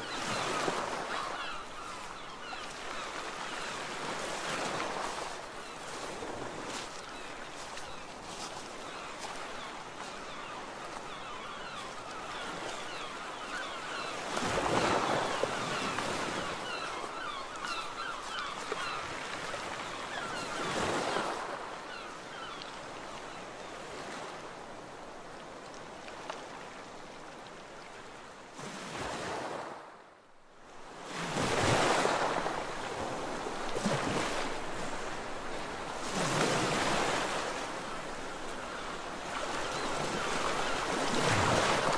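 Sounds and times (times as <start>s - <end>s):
sea waves breaking on a beach: 0.0s - 41.9s.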